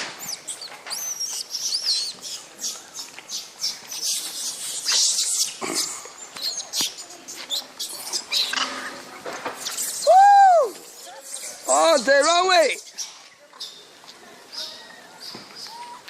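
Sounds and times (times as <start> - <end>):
monkeys squealing: 0.2 - 9.0, 9.6 - 10.1, 10.8 - 13.8, 14.5 - 16.0.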